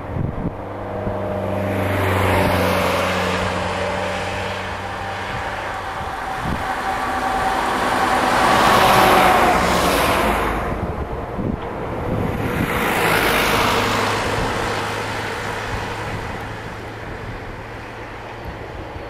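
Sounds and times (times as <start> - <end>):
locomotive engine drone: 0.0 - 19.0
road traffic passing: 0.0 - 19.0.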